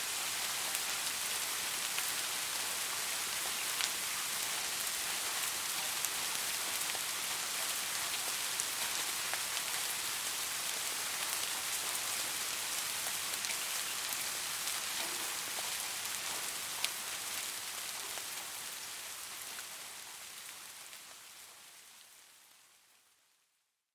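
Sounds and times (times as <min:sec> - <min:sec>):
rain falling: 0:00.0 - 0:23.3.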